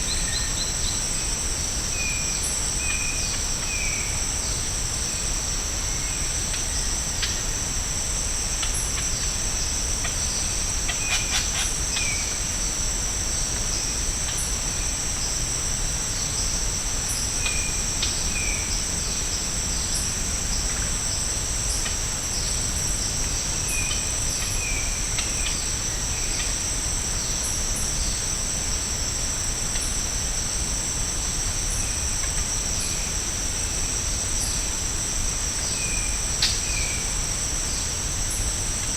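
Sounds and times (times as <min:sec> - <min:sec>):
rainforest insects chorus: 0:00.0 - 0:38.9.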